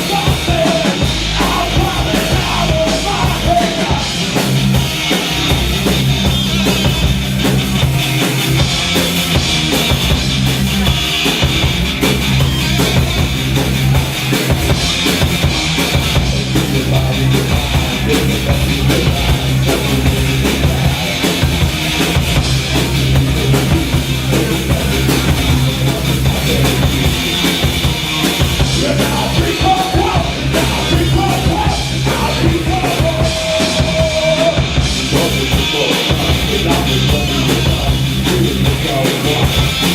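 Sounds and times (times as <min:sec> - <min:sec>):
drum kit hits: 0:00.0 - 0:39.9
heavy sustained bass notes: 0:00.0 - 0:39.9.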